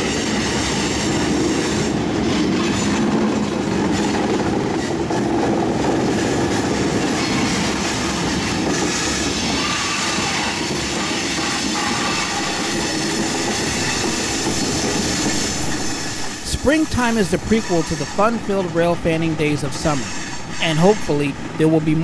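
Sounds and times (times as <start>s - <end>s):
train wheels clattering on rails: 0.0s - 22.0s.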